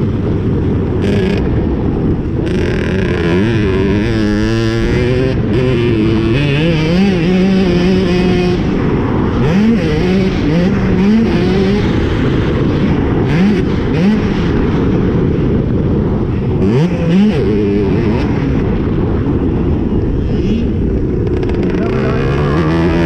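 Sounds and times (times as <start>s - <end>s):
steady rushing noise: 0.0s - 23.0s
motocross bike engine revving: 0.8s - 14.9s, 16.3s - 19.1s, 20.2s - 23.0s.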